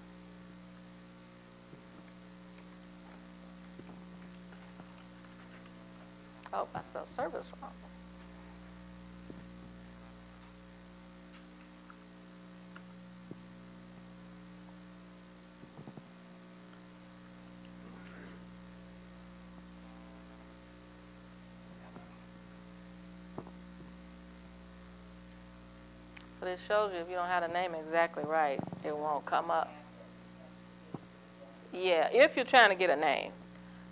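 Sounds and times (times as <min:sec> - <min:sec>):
electrical mains hum: 0:00.0 - 0:33.9.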